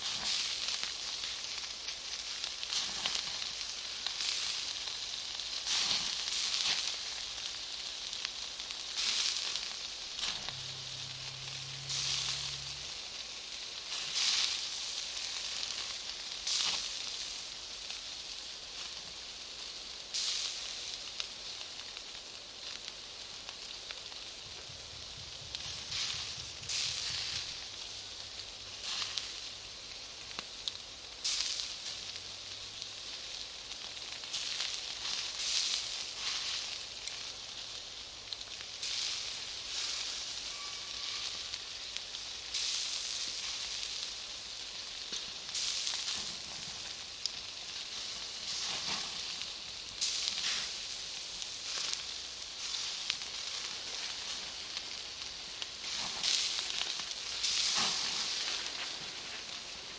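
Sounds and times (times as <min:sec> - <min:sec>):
sharp pops from burning charcoal: 0:00.0 - 0:13.0, 0:13.7 - 0:59.9
fire hissing and crackling: 0:00.0 - 0:59.9.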